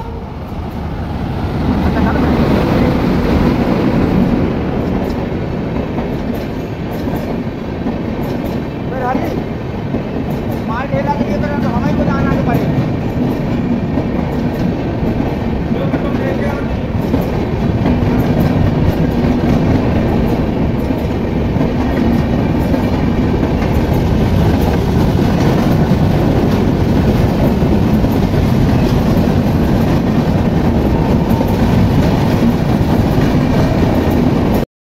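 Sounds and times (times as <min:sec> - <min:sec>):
train coaches rumbling past: 0:00.0 - 0:34.6
wheels clacking over rails: 0:01.6 - 0:34.6.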